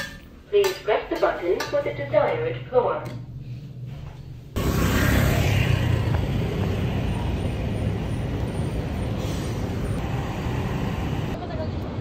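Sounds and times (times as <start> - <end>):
road traffic rumble: 0.3 - 12.0.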